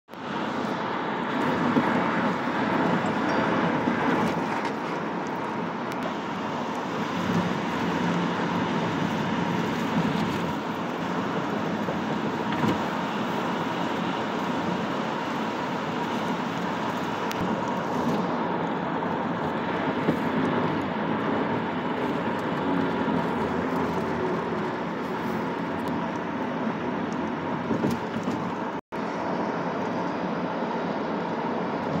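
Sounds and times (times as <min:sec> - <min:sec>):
tyres and wind road noise: 0:00.1 - 0:32.0.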